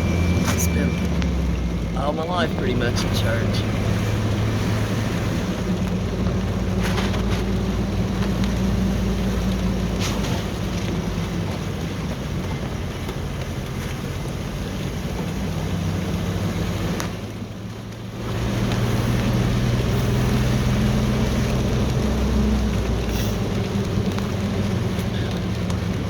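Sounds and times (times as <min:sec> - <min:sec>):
car engine hum: 0:00.0 - 0:26.0
road noise: 0:00.0 - 0:26.0.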